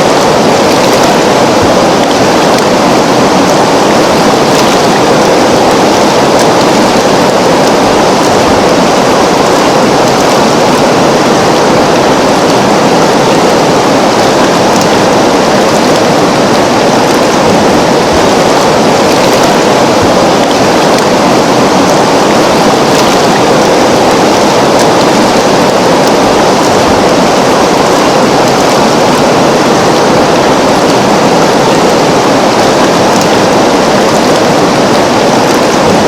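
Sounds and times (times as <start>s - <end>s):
river water rushing: 0.0s - 36.0s.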